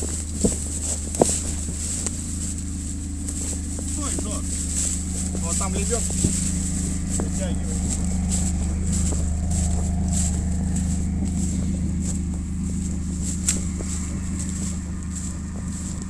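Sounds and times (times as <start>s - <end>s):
footsteps crunching dry leaves: 0.0s - 16.0s
vehicle engine running: 0.0s - 16.0s.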